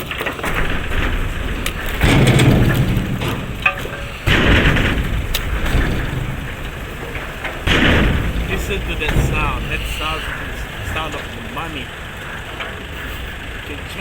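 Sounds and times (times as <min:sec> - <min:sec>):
fruit bunches tumbling from truck: 0:00.0 - 0:14.0.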